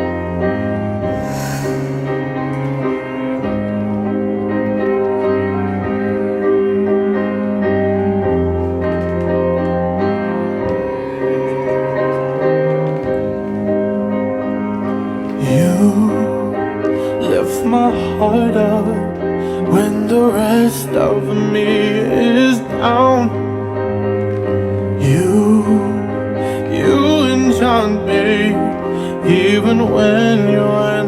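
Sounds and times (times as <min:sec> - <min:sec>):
slow piano chords: 0:00.0 - 0:31.0.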